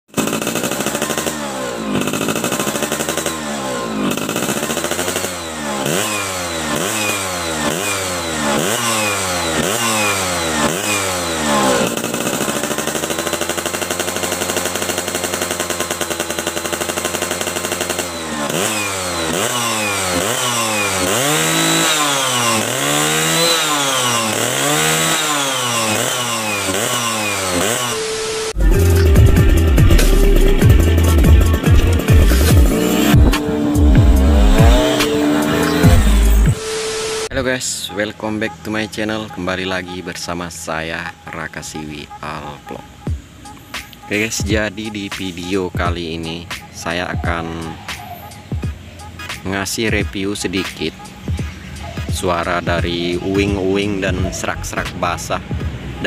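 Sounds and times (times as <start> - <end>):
two-stroke engine revving: 0.0 - 37.4, 38.6 - 56.0.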